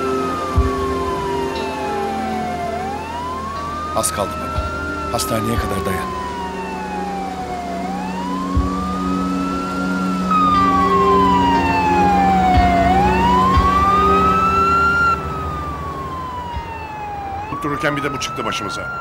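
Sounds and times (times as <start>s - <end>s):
ambulance siren wailing: 0.0s - 19.0s.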